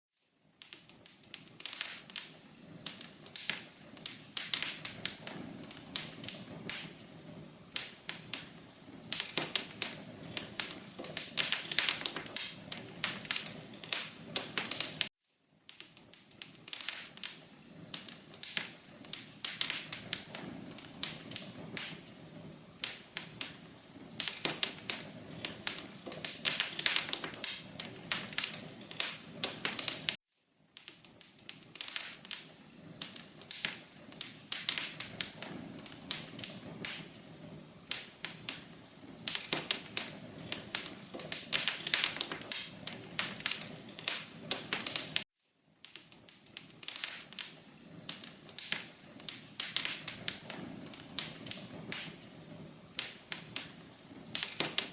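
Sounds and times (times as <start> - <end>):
wood fire crackling: 0.2 - 54.9.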